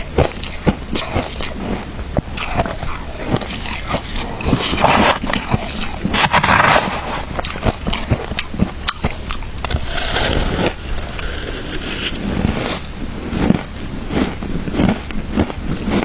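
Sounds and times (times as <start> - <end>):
crunching of shaved ice: 0.0 - 16.0.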